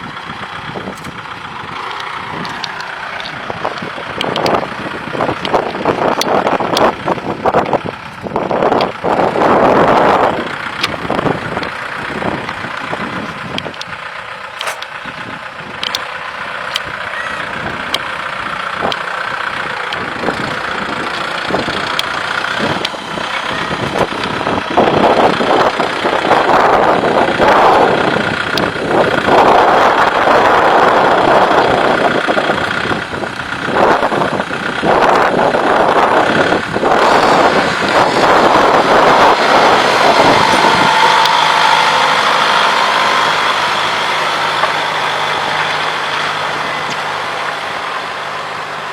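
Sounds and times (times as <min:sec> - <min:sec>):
tractor diesel engine: 0:00.0 - 0:48.9.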